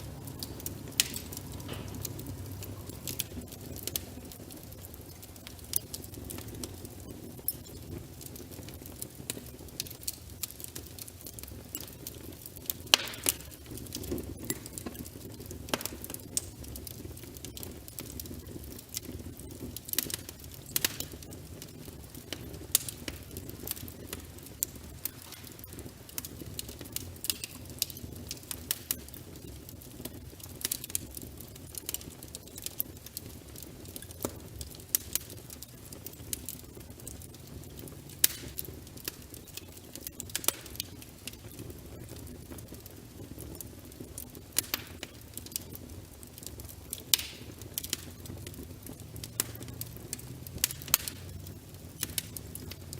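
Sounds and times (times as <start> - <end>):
log fire crackling: 0.0 - 52.9
rush of flames: 0.0 - 52.9.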